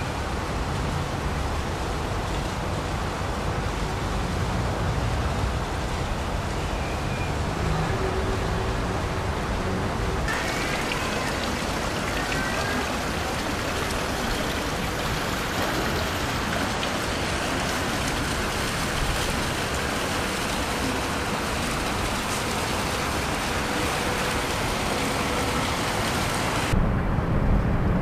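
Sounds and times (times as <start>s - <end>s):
fountain water splashing: 0.0s - 26.8s.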